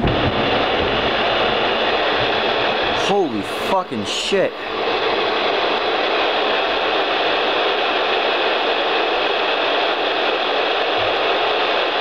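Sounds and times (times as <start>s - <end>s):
radio static hissing: 0.0s - 12.0s.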